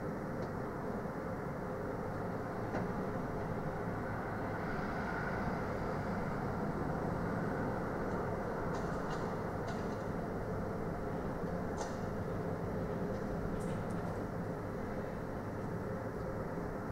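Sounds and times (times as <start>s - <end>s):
low machinery rumble: 0.0s - 16.9s.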